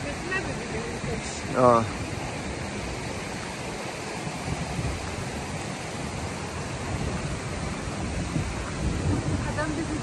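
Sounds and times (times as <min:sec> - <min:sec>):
steady outdoor rushing noise: 0:00.0 - 0:10.0.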